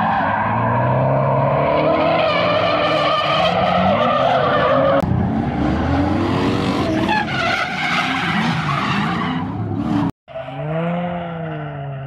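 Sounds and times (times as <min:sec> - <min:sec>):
car engines revving: 0:00.0 - 0:12.0
tyres skidding and squealing: 0:00.0 - 0:12.0.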